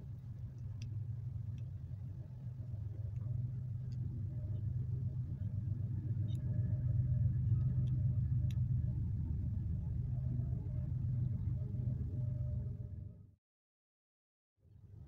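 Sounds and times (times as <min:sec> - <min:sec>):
low steady rumble: 0:00.0 - 0:13.4.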